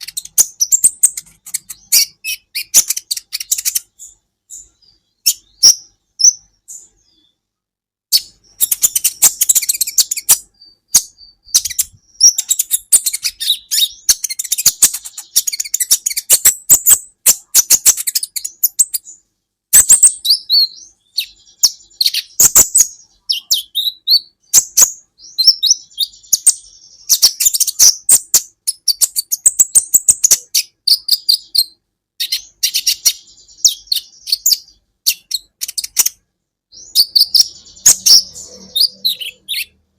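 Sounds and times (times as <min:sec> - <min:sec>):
bird chattering song: 0:00.0 - 0:07.5, 0:08.1 - 0:39.9.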